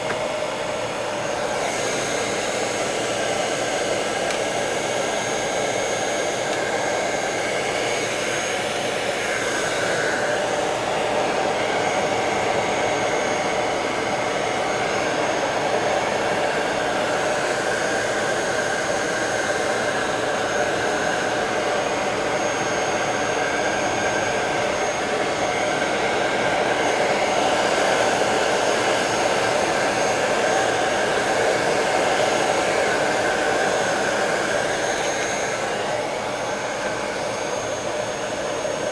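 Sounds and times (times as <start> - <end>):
hot-air blower running: 0.0 - 38.9.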